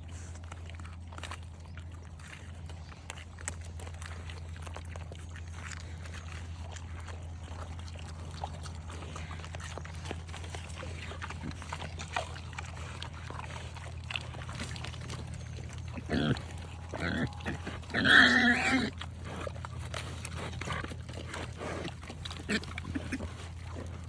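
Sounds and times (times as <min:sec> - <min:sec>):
pigs chewing and crunching: 0:00.0 - 0:24.0
steady low hum: 0:00.0 - 0:24.0.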